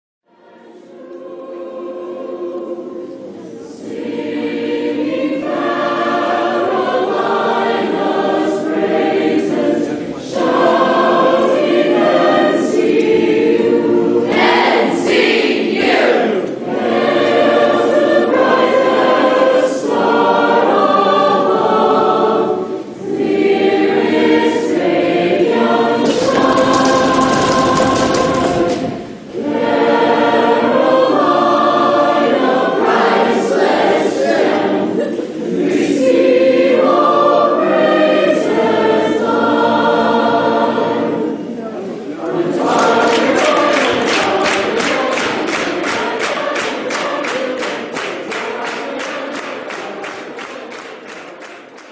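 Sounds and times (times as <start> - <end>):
choir singing: 0.3 - 51.9.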